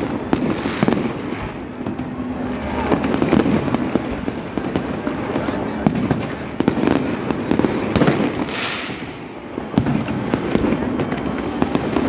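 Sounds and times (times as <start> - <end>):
firework hissing rush: 0.0 - 12.0
fireworks bangs and crackling pops: 0.0 - 12.0.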